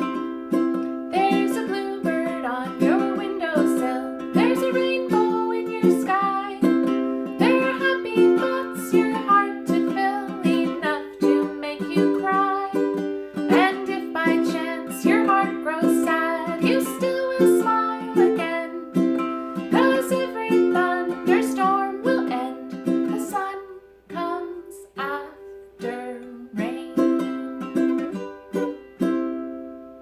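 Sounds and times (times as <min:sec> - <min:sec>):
small string instrument strummed: 0:00.0 - 0:30.0.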